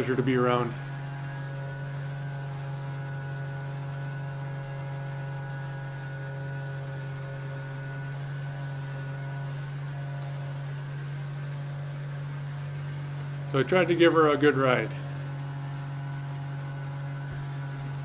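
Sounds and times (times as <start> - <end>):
boat motor droning: 0.0 - 18.0.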